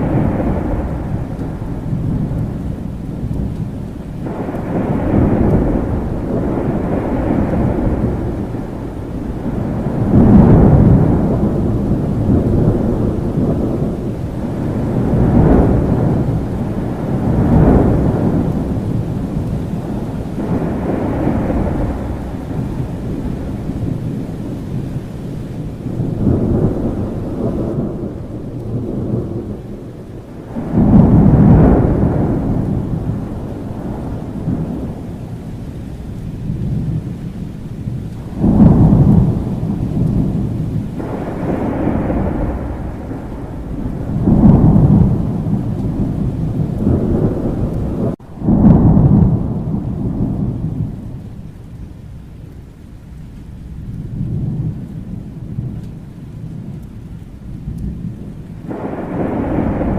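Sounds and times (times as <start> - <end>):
rolling thunder: 0.0 - 59.9
steady rain: 0.0 - 59.9.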